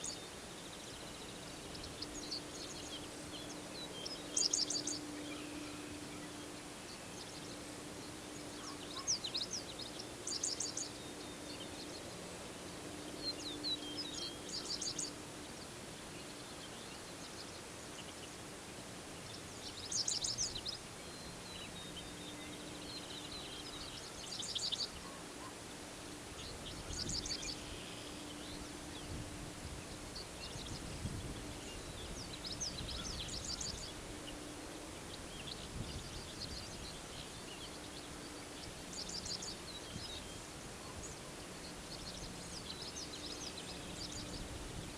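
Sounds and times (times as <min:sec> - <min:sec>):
faint steady low hum: 0:00.0 - 0:44.9
songbirds singing: 0:00.0 - 0:44.9.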